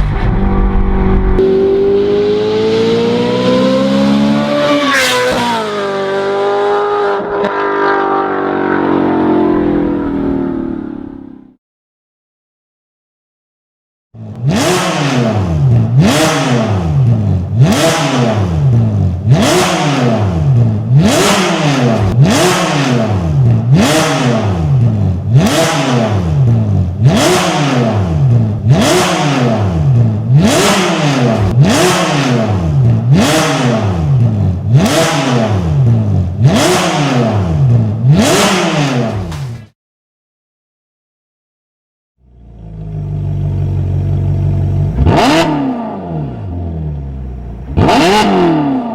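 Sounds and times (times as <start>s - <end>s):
car engine revving: 0.0s - 11.6s, 14.2s - 39.6s, 42.2s - 48.9s.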